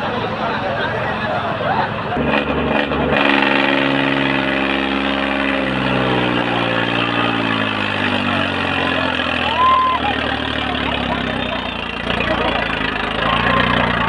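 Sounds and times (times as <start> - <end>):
tractor diesel engine at full throttle: 0.0 - 14.0.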